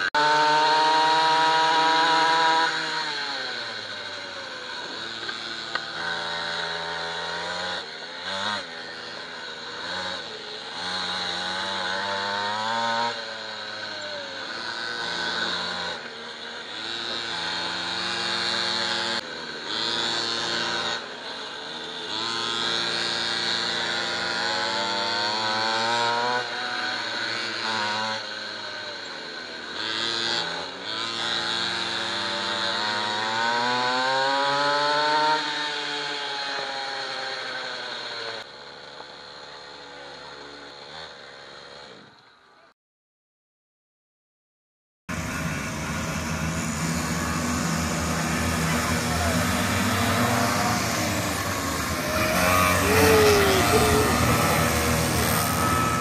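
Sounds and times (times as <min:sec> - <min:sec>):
small two-stroke bike engines racing: 0:00.0 - 0:42.7, 0:45.1 - 0:56.0.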